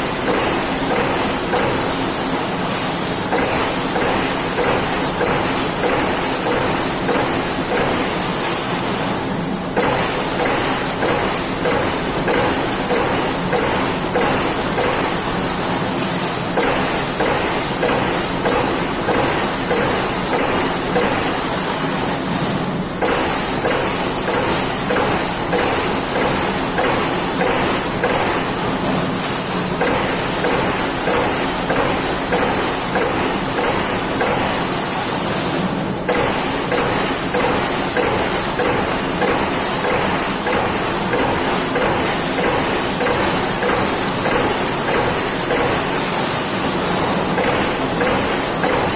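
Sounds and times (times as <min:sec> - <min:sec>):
punch press punching sheet metal: 0:00.0 - 0:48.9
steady machine hum: 0:00.0 - 0:48.9.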